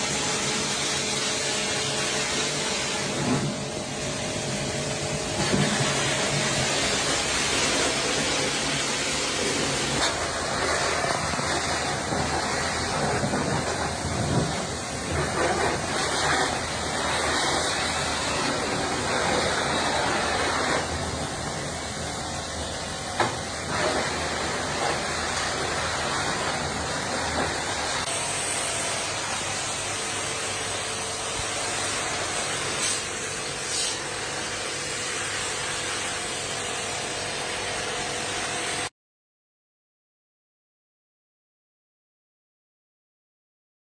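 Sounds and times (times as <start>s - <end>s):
hissing spray: 0.0s - 38.9s.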